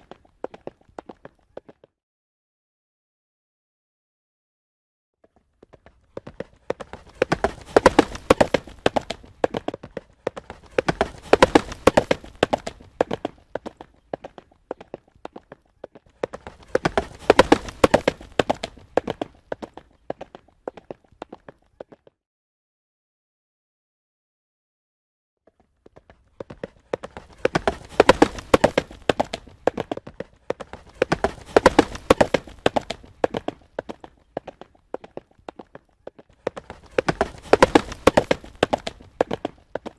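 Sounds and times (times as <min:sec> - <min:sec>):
horse galloping: 0:00.0 - 0:01.9, 0:05.2 - 0:22.1, 0:25.5 - 0:39.9.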